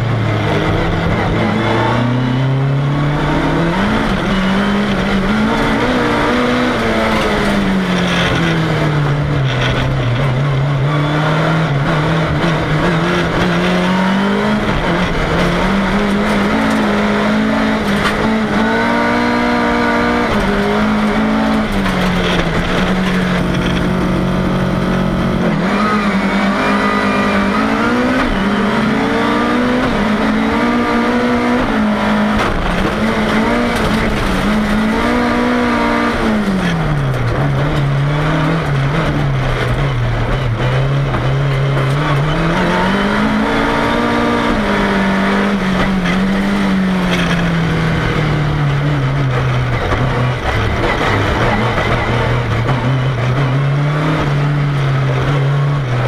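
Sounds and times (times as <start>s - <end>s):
car engine revving: 0.0s - 56.0s
road noise: 0.0s - 56.0s.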